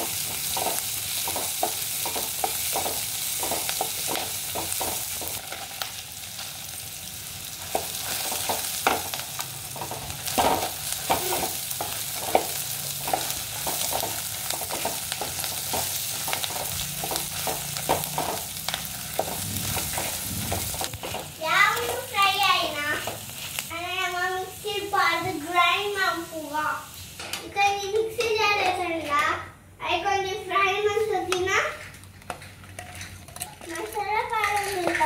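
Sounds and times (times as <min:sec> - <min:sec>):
onions and spices sizzling: 0:00.0 - 0:35.0.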